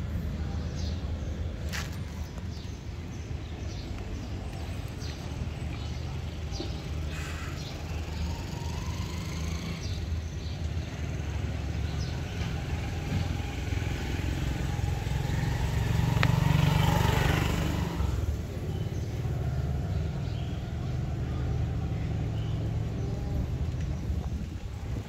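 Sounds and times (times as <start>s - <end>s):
vehicle passing: 4.7s - 25.0s.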